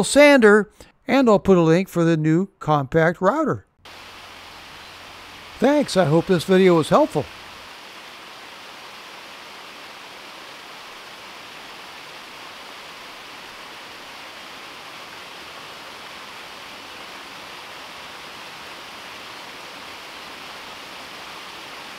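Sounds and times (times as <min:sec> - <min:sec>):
waterfall splashing over rocks: 0:03.9 - 0:21.9.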